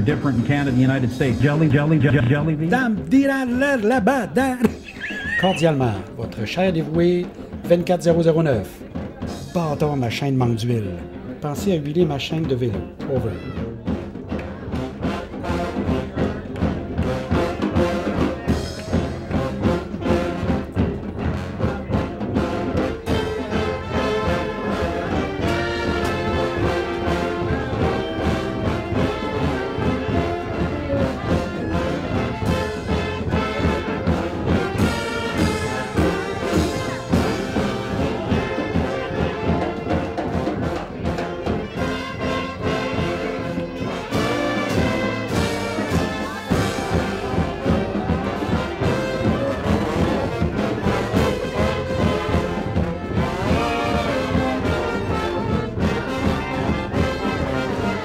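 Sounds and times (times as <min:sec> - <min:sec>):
brass band playing upbeat tune: 0:00.0 - 0:58.0.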